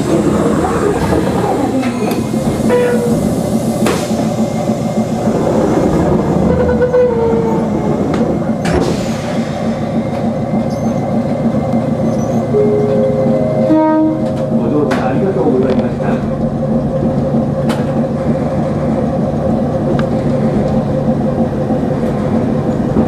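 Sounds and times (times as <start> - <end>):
rumble of motors and wheels: 0.0 - 23.0.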